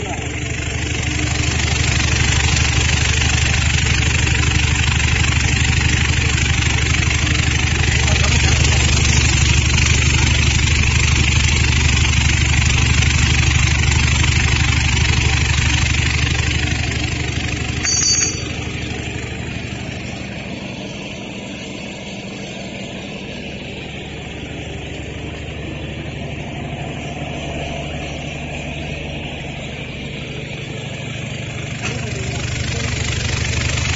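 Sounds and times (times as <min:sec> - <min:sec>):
polishing machine humming: 0:00.0 - 0:33.9.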